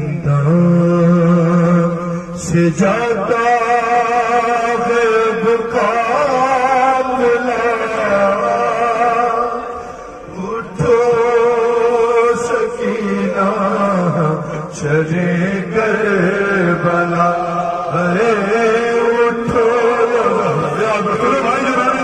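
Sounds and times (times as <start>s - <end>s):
man chanting into microphone: 0.0s - 22.0s.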